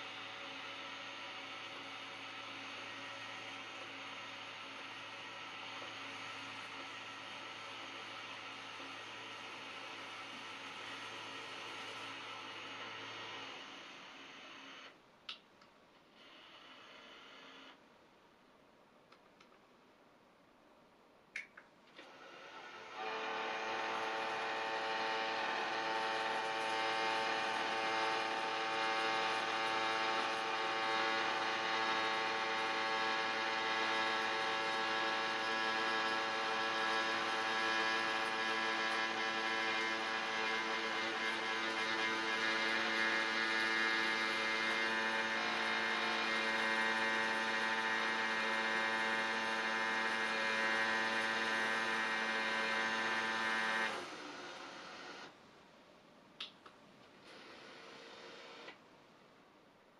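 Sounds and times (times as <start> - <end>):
blind motor whining: 0.0 - 15.0, 16.1 - 17.8, 21.9 - 55.4, 57.2 - 58.8.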